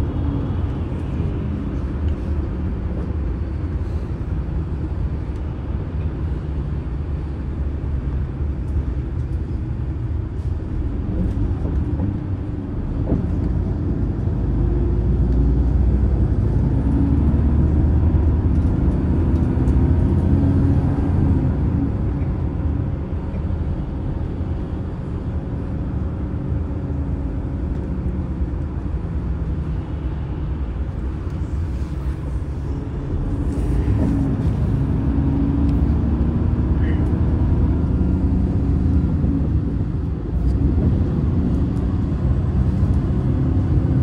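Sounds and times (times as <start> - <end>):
bus engine rumble from inside: 0.0 - 44.0.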